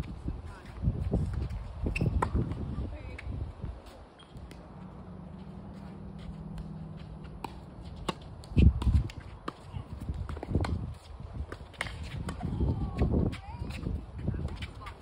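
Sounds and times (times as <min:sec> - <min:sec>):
footsteps on court: 0:00.0 - 0:15.0.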